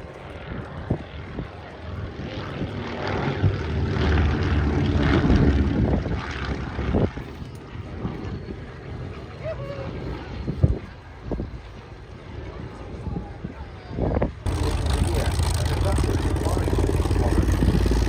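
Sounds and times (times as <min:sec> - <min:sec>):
propeller aircraft passing by: 0:00.0 - 0:18.0
wind buffeting microphone: 0:00.0 - 0:18.0.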